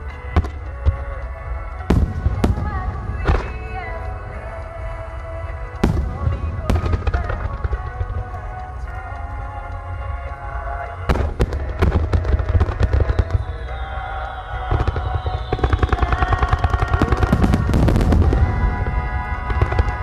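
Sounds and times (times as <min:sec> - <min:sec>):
fireworks bursting: 0:00.0 - 0:20.0
music: 0:00.0 - 0:20.0.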